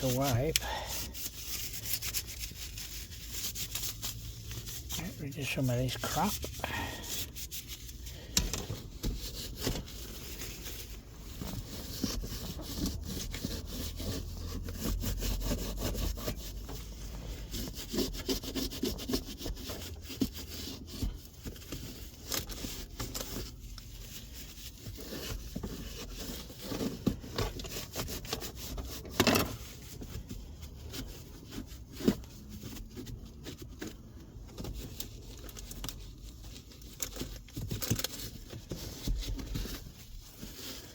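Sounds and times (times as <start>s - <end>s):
wipe scrubbing plastic trim: 0.0s - 40.9s.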